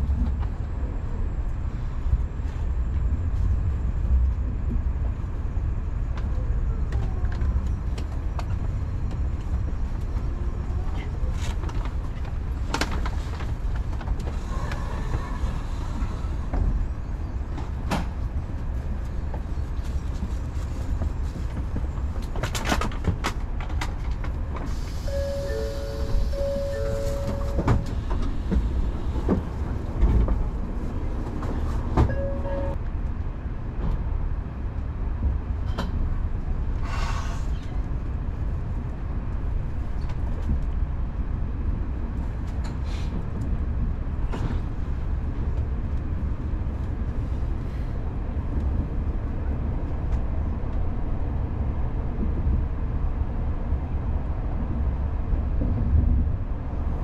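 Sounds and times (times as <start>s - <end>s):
train interior rumble: 0.0s - 57.0s.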